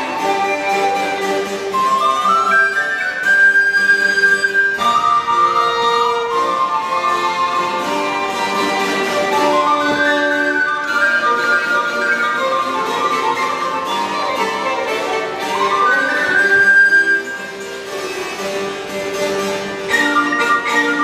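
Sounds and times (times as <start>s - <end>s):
harpsichord: 0.0s - 21.0s
violin: 0.0s - 21.0s.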